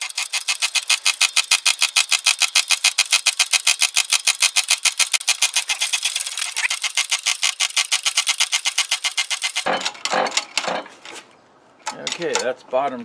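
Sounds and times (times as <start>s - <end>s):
rapid mechanical clicking: 0.0s - 10.8s, 11.8s - 12.5s
metal parts knocking and scraping: 0.0s - 12.6s.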